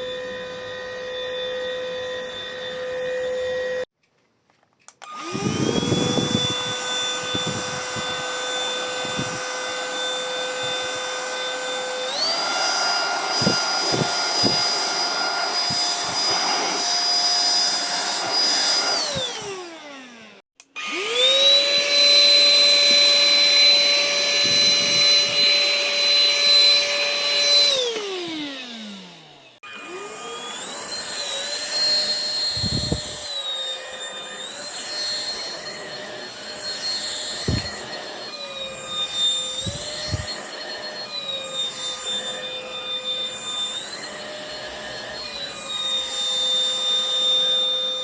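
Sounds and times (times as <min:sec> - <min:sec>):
vacuum cleaner motor whining: 0:00.0 - 0:03.9, 0:05.0 - 0:48.0.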